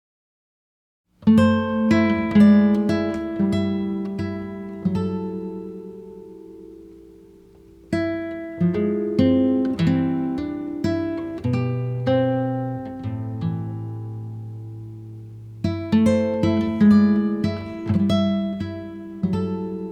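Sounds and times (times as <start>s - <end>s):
plucked acoustic guitar: 1.2s - 19.9s.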